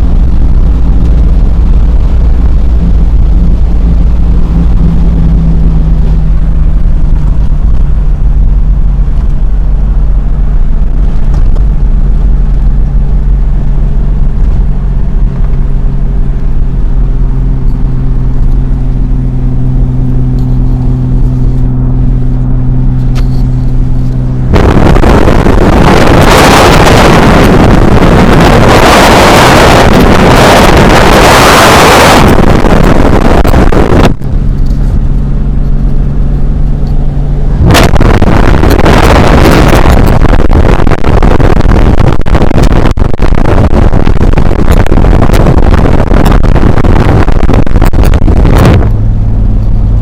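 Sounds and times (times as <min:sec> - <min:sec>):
car road and wind rumble: 0:00.0 - 0:50.0
loud rush of wind: 0:00.0 - 0:50.0
low engine hum: 0:00.0 - 0:50.0.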